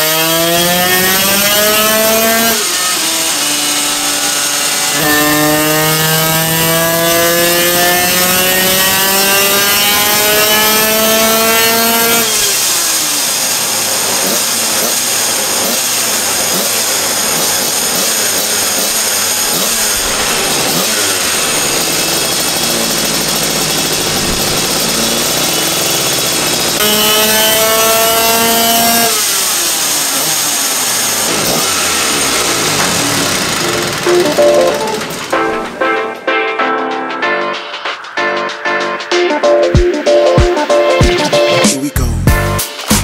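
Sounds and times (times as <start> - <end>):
two-stroke kart engine revving: 0.0 - 36.2.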